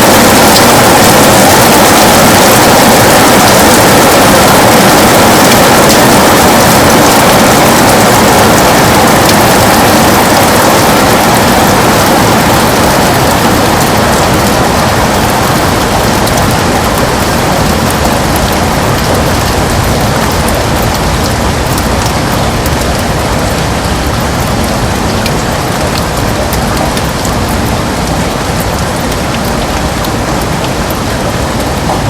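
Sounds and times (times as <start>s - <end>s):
heavy rain on a window: 0.0s - 32.0s.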